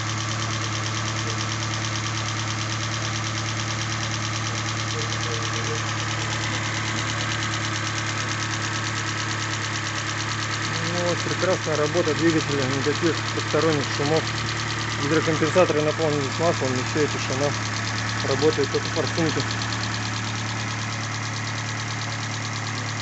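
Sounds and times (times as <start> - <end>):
fuel injectors ticking: 0.0 - 23.0
petrol engine idling: 0.0 - 23.0.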